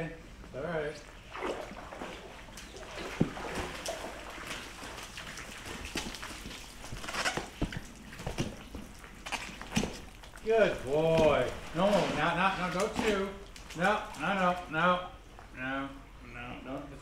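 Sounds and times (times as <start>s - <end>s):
pool water sloshing and splashing: 0.9s - 16.2s.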